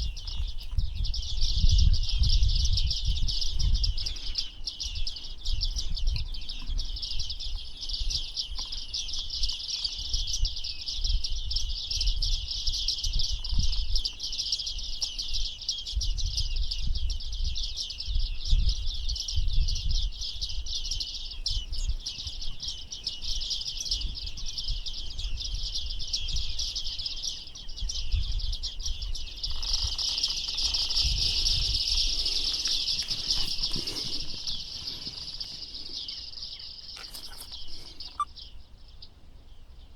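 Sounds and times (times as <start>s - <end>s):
wind rumbling on microphone: 0.0s - 39.6s
small birds chirping: 0.0s - 39.9s.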